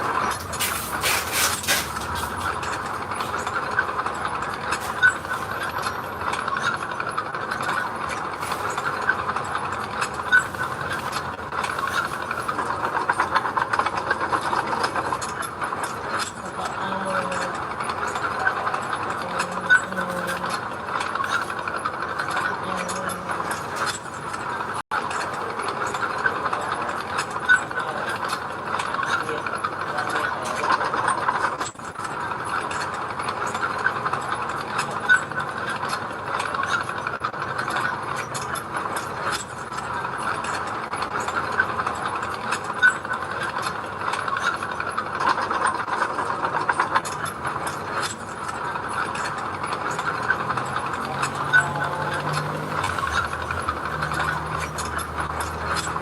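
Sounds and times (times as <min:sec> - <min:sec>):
heavy machinery engine running: 0:00.0 - 0:56.0
metal clanks and rattles: 0:00.0 - 0:56.0.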